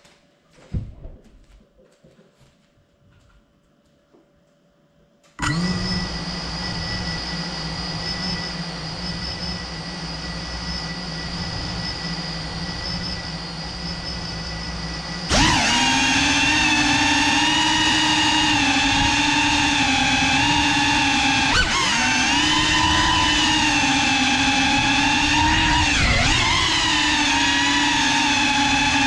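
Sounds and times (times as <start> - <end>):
drone motors whining: 5.4 - 29.0.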